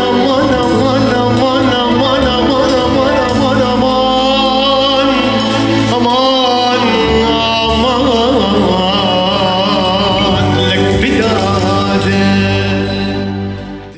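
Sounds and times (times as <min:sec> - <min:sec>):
man singing ornamented vocal: 0:00.0 - 0:13.9.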